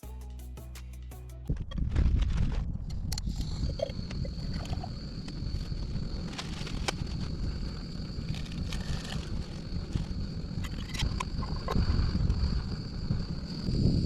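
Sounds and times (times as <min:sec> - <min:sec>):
wind buffeting microphone: 0:01.5 - 0:14.0.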